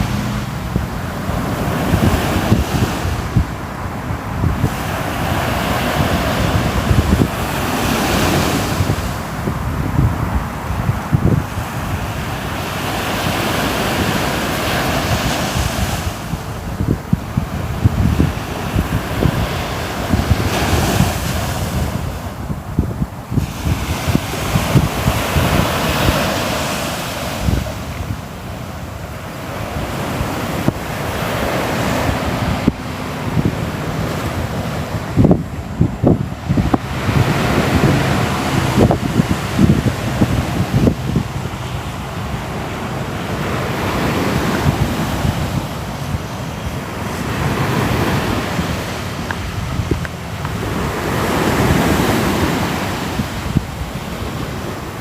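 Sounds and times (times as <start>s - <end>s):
sea waves washing onto shore: 0.0s - 55.0s
wind buffeting microphone: 0.0s - 55.0s.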